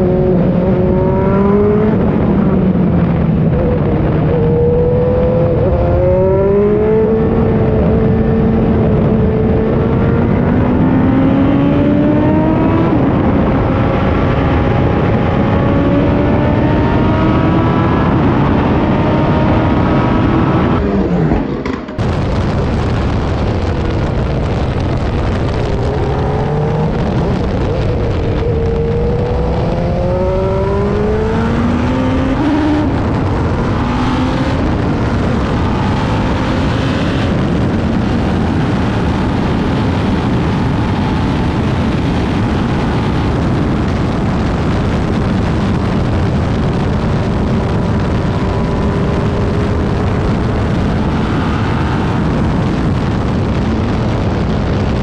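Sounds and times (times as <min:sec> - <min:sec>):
racing car engine revving: 0:00.0 - 0:54.2.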